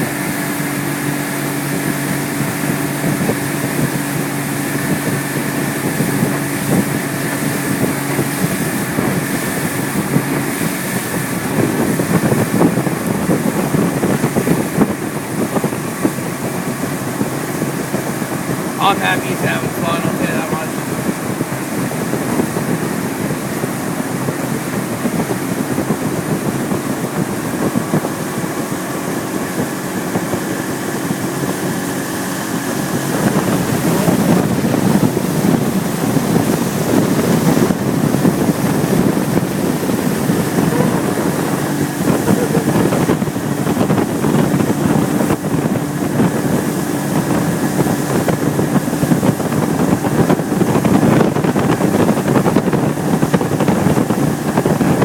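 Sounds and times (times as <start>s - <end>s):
motorboat engine running: 0.0s - 55.0s
wind buffeting microphone: 0.0s - 55.0s.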